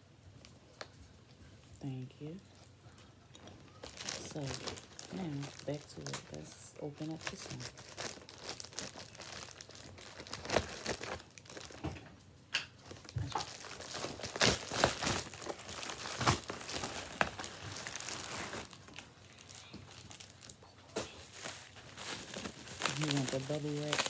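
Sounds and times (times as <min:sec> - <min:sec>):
plastic packaging crinkling and tearing: 0:03.4 - 0:12.0, 0:12.8 - 0:24.0.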